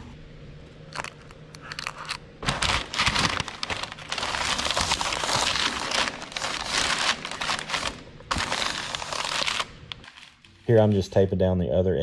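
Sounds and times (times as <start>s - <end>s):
paper crinkling and rustling: 1.0s - 11.3s.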